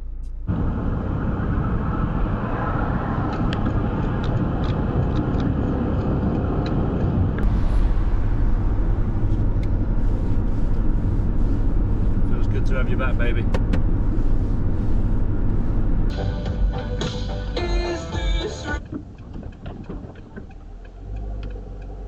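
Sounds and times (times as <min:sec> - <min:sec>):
van engine and road rumble: 0:00.0 - 0:22.0.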